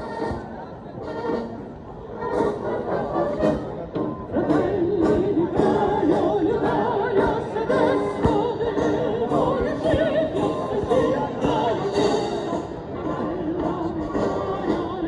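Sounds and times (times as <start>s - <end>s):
orchestral accompaniment: 0.0s - 14.8s
operatic voice singing: 2.1s - 15.0s.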